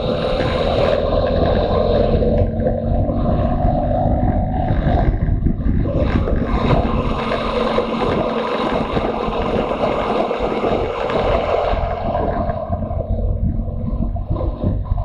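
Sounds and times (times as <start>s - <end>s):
motorcycle engine rumble: 0.0s - 15.0s
wind rushing over microphone: 0.0s - 15.0s.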